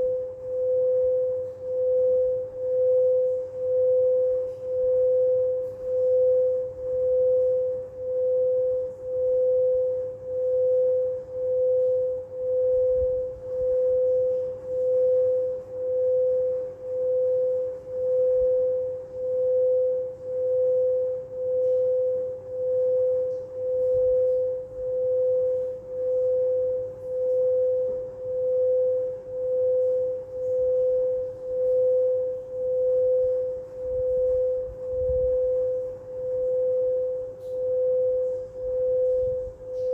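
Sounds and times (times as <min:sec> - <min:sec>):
singing bowl tone: 0:00.0 - 0:39.9.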